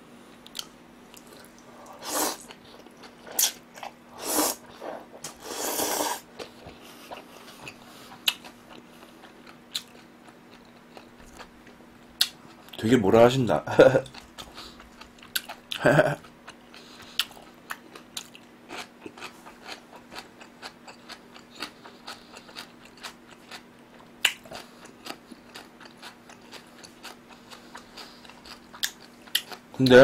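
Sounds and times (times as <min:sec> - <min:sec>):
chewing food: 0:00.5 - 0:04.0, 0:06.3 - 0:12.8, 0:14.0 - 0:30.0.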